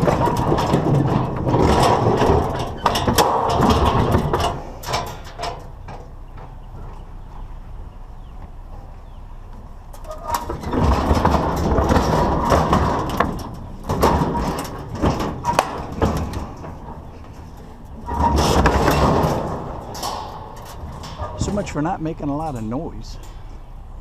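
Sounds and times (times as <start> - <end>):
scrap metal scraping and clattering: 0.0 - 7.4, 9.9 - 23.7.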